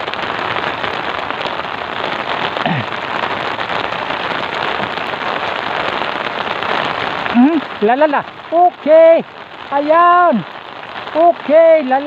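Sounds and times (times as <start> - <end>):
heavy rain on sea surface: 0.0 - 12.0.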